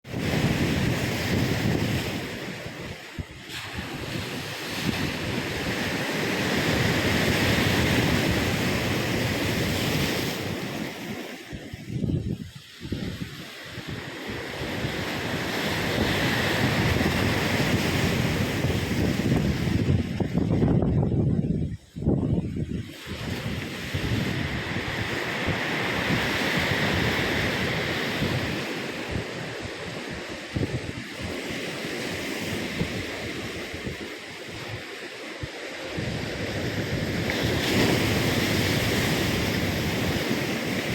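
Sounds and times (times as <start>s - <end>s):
ocean surf breaking: 0.0s - 40.9s
wind rumble on microphone: 0.0s - 40.9s.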